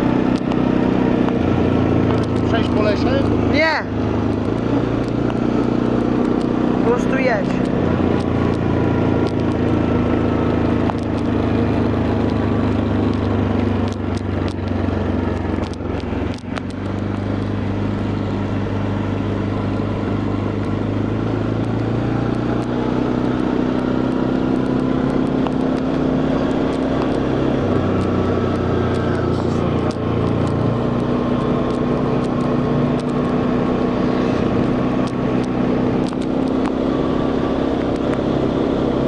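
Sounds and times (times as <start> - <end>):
quad bike engine droning: 0.0 - 39.0.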